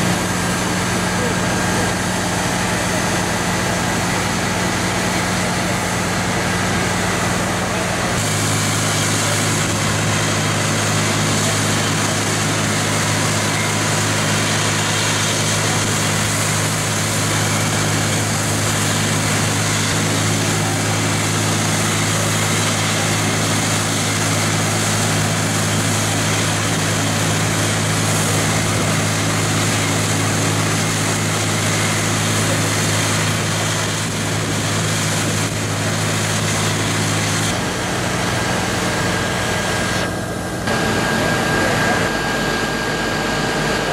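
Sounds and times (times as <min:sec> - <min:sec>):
heavy diesel machinery running: 0:00.0 - 0:43.9.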